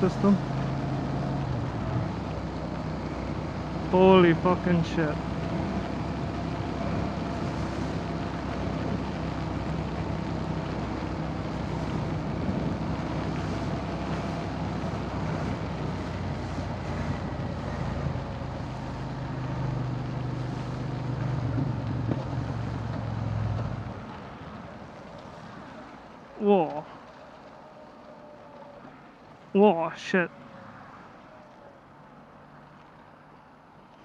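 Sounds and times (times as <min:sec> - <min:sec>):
motorcycle engine humming: 0:00.0 - 0:34.0
wet road noise: 0:00.0 - 0:34.0.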